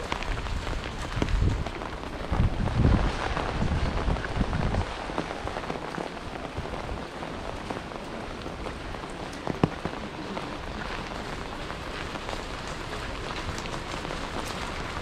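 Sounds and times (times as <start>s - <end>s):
low rumbling: 0.0s - 15.0s
rain falling: 0.0s - 15.0s.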